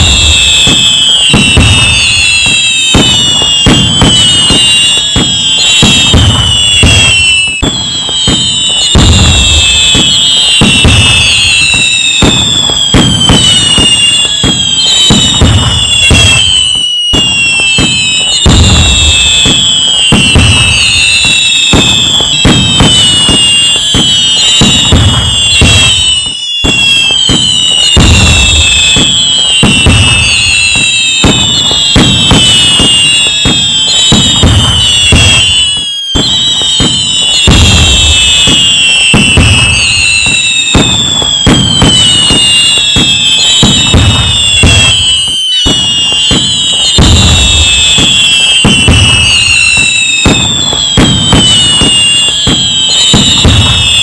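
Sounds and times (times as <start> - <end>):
fireworks crackling and banging: 0.0 - 54.0
fireworks shells booming: 0.0 - 54.0
fireworks whistling: 0.0 - 54.0.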